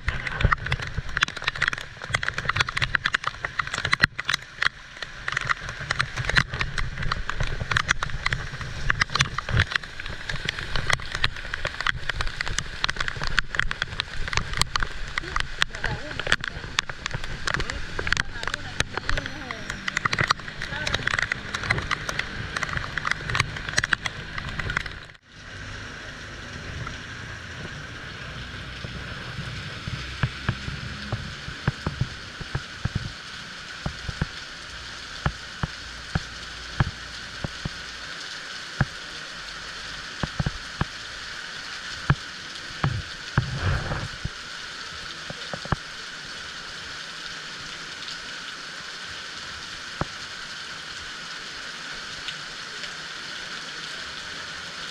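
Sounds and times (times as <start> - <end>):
heavy rain falling: 0.0 - 54.9
large raindrops striking nearby: 0.0 - 54.9.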